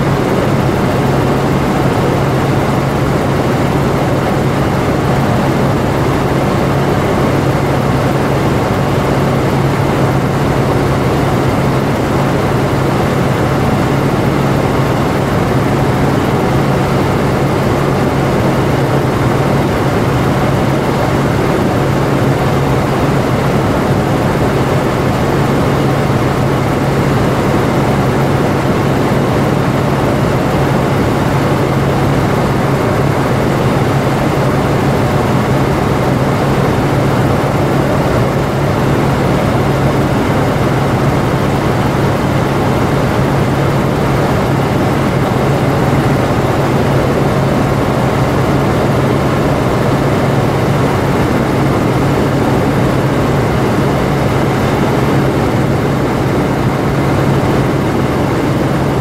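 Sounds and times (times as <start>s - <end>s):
helicopter rotor and engine noise: 0.0s - 59.0s.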